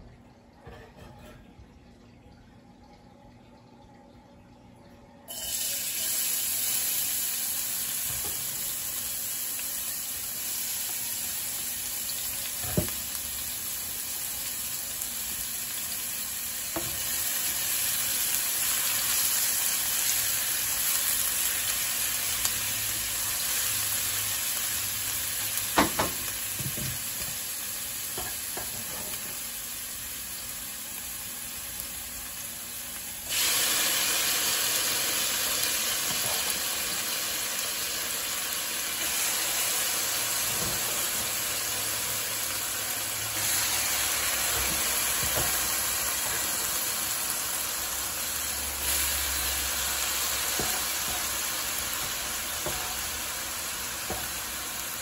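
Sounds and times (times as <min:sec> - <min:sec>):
onion sizzling in hot oil: 0:05.3 - 0:55.0.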